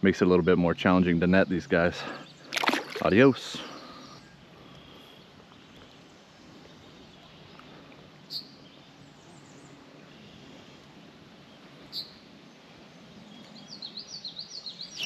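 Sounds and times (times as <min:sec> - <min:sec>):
river water murmur: 0:01.5 - 0:15.0
faint bird chirps: 0:02.0 - 0:15.0.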